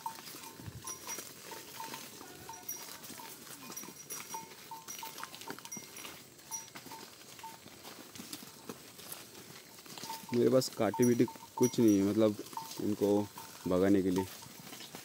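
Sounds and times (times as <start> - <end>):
hoof steps on stony trail: 0.0 - 15.0
leaves rustling: 0.0 - 15.0.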